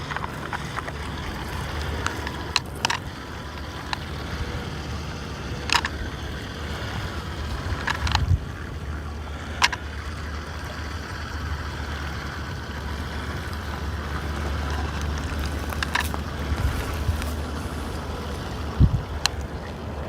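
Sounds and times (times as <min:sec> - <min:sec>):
rc car motor churning water: 0:00.0 - 0:20.0
wind rumble on microphone: 0:00.0 - 0:20.0.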